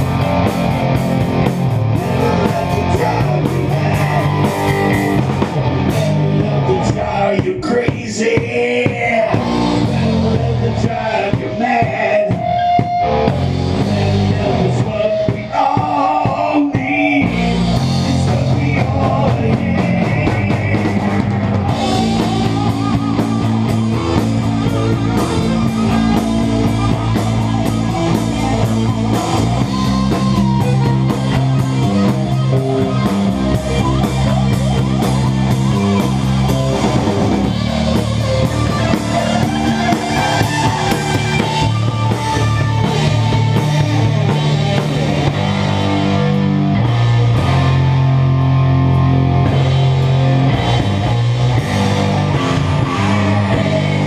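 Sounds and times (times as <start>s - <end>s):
electric bass: 0.0s - 54.0s
heavy metal song: 0.0s - 54.0s.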